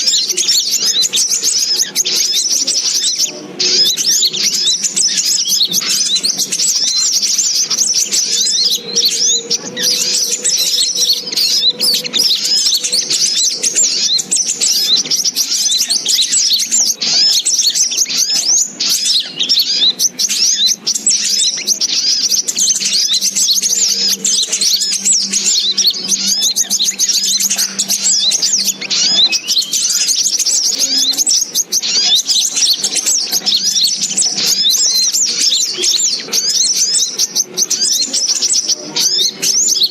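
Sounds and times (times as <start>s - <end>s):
sunbirds chirping: 0.0s - 39.9s.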